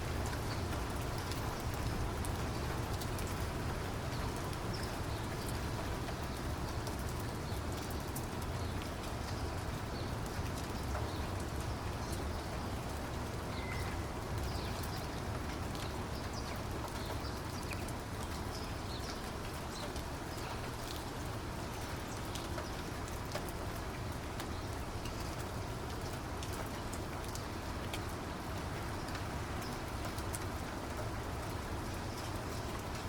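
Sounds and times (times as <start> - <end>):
steady rainfall: 0.0 - 33.0
sharp raindrop ticks: 0.1 - 33.0.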